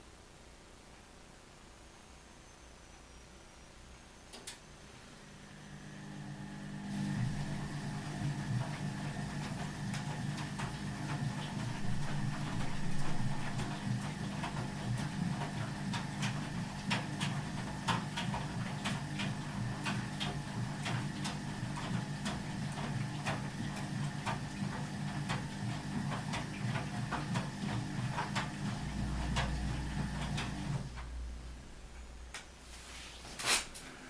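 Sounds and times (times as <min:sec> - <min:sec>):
washing machine motor hum: 0:04.4 - 0:33.0.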